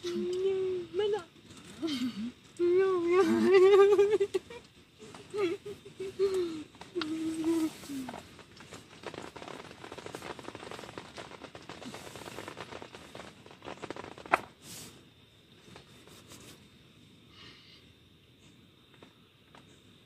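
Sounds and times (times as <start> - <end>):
rustling and crackling: 0.0 - 16.8.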